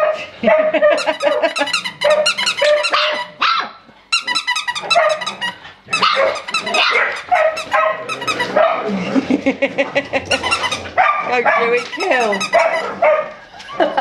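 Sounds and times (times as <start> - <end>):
puppies yapping and squealing: 0.7 - 8.8, 10.2 - 14.0.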